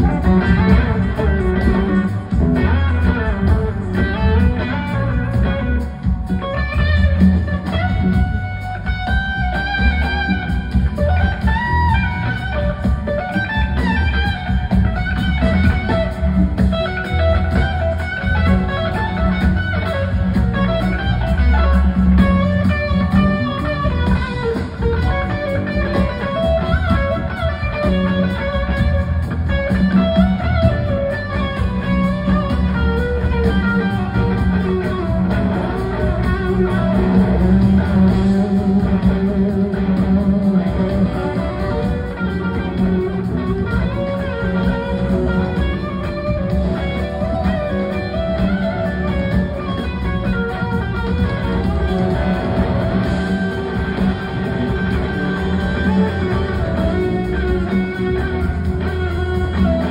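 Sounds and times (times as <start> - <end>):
blues-rock band playing: 0.0 - 59.9
electric guitar: 0.0 - 59.9.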